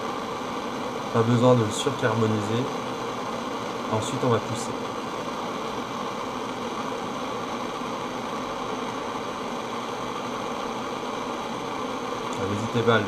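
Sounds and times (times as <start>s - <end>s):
blowtorch flame hissing: 0.0s - 13.0s.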